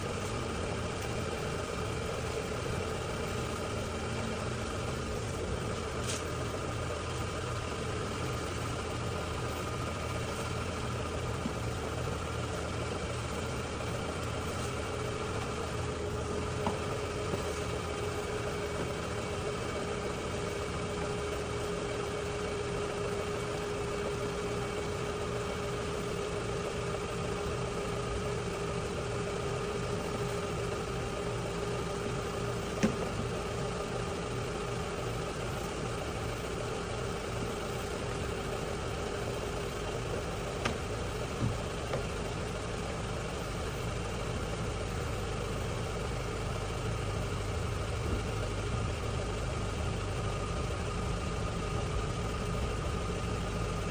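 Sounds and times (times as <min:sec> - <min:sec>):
engine-like hum: 0:00.0 - 0:53.9.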